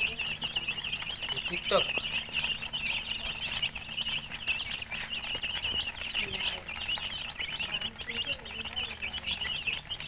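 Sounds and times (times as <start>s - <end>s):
chicks chirping: 0.0s - 10.0s.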